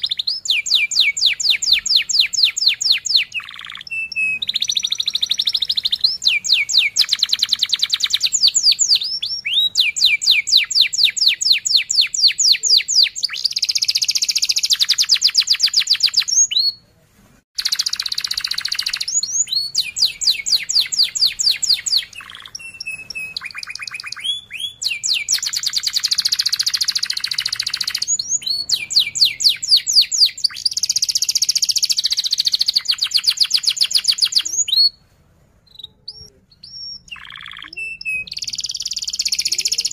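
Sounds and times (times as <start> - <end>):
canary singing trills: 0.0 - 16.8, 17.6 - 35.0, 35.6 - 39.9.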